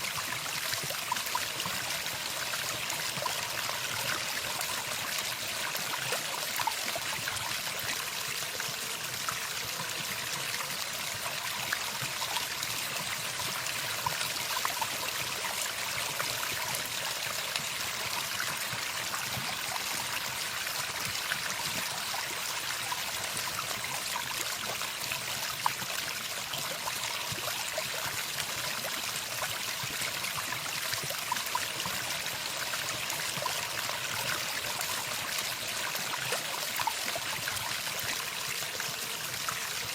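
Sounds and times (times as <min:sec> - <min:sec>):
trickling stream: 0:00.0 - 0:39.9.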